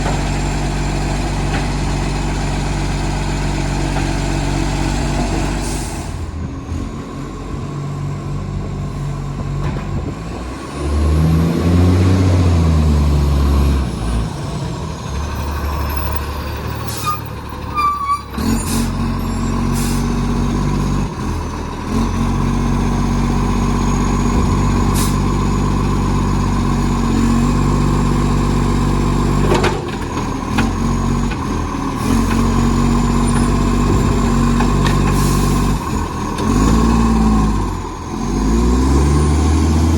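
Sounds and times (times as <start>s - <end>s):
garbage truck engine with exhaust leak: 0.0s - 39.9s.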